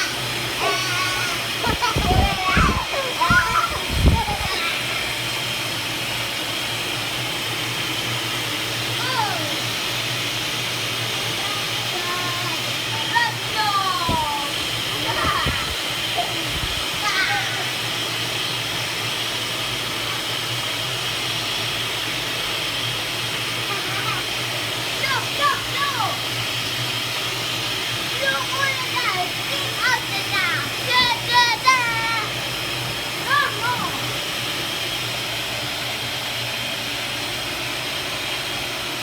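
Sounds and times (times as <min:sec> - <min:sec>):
vacuum cleaner motor running: 0:00.0 - 0:39.0.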